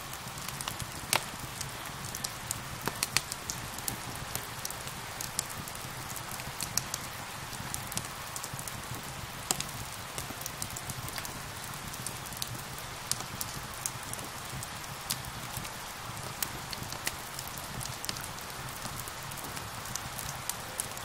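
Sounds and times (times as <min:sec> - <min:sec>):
steady rain hiss: 0:00.0 - 0:21.0
wood fire crackling: 0:00.0 - 0:21.0.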